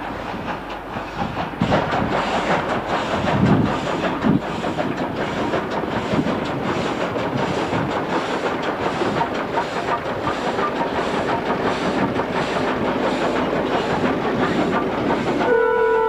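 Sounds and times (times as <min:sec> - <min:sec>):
steam hissing: 0:00.0 - 0:15.7
steam locomotive chuffing: 0:00.0 - 0:16.0.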